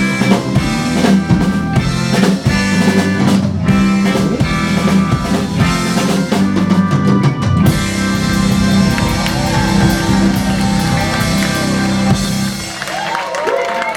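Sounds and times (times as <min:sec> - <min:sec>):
live rock band playing: 0:00.0 - 0:13.4.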